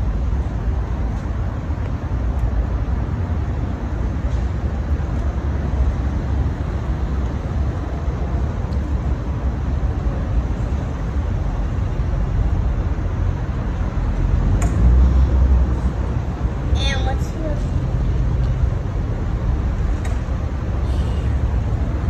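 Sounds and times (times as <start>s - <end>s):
low rumbling outdoor background: 0.0s - 22.0s.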